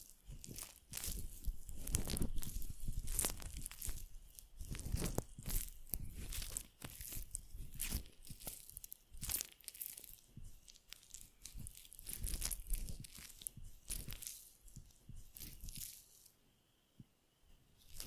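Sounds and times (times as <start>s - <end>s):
crinkling and scratching: 0.0s - 16.4s, 17.8s - 18.0s.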